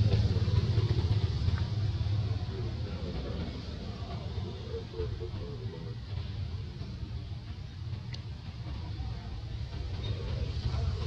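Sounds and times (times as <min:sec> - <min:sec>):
faint wavering sounds: 0:00.0 - 0:11.0
low background rumble: 0:00.0 - 0:11.0.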